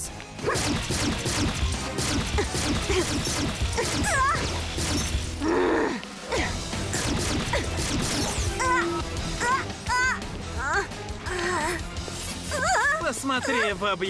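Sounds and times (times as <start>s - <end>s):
fast cartoon action music: 0.0s - 5.5s, 6.3s - 14.0s.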